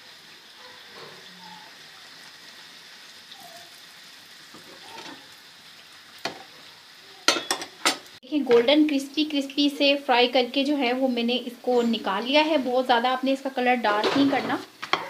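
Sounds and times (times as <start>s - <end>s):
bread sizzling in a pan: 0.0s - 15.0s.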